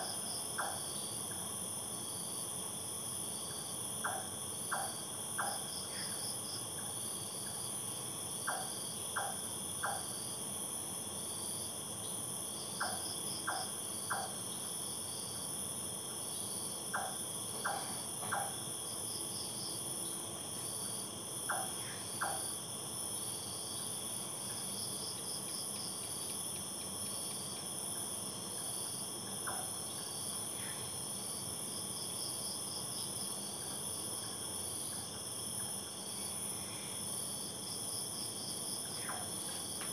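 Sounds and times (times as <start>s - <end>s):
crickets trilling: 0.0s - 39.9s
pulsing insect trill: 0.0s - 39.9s.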